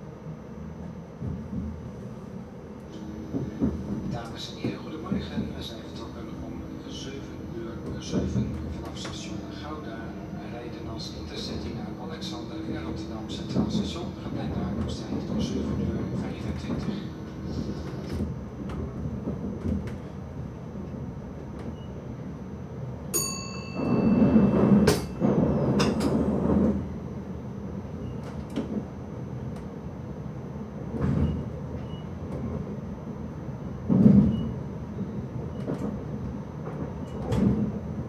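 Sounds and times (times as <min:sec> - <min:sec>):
train rumbling: 0:00.0 - 0:38.0.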